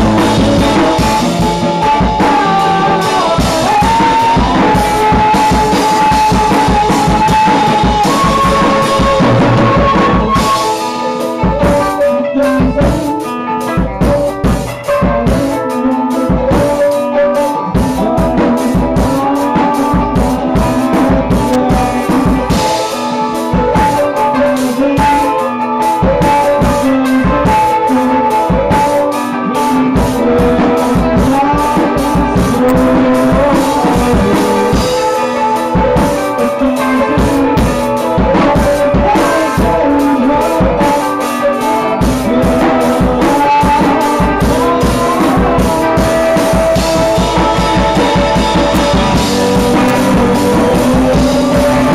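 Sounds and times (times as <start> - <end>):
drum kit with cymbals: 0.0 - 51.9
electric guitars: 0.0 - 51.9
rock band playing live: 0.0 - 51.9.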